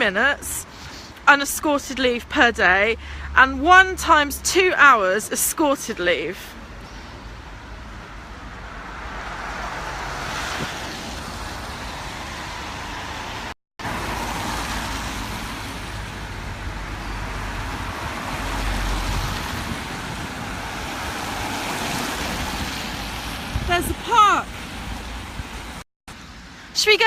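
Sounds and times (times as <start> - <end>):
passing vehicles: 0.0 - 27.0.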